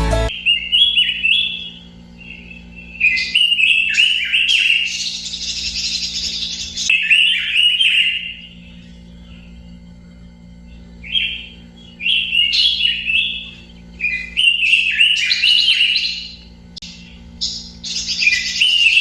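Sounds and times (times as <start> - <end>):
bird singing fluting notes: 0.0 - 9.7, 10.6 - 19.0
steady low hum: 0.0 - 19.0.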